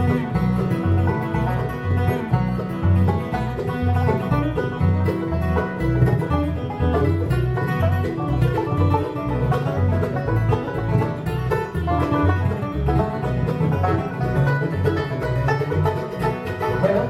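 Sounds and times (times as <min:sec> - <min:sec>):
banjo picking: 0:00.0 - 0:17.0
bass line: 0:00.0 - 0:17.0
strummed guitar: 0:00.0 - 0:17.0.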